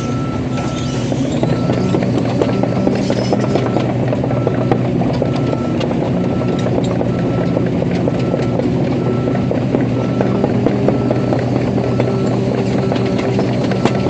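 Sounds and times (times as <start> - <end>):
travel alarm beeping: 0.0 - 0.8, 1.5 - 14.0
diesel engine running: 0.0 - 14.0.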